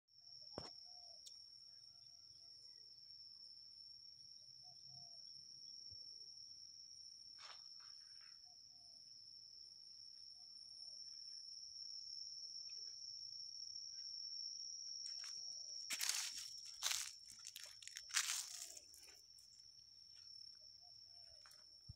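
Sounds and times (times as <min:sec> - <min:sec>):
insects trilling: 0:00.2 - 0:21.9.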